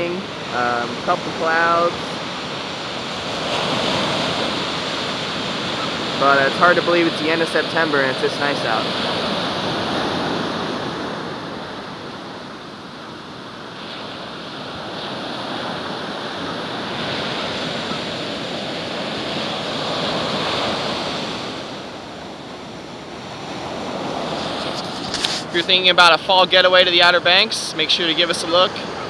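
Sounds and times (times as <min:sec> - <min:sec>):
waves breaking on beach: 0:00.0 - 0:29.0.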